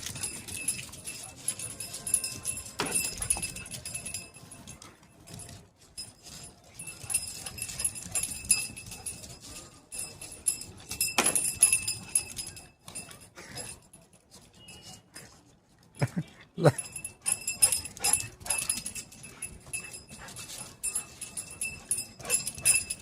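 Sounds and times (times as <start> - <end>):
small metal bells jingling: 0.0 - 23.0.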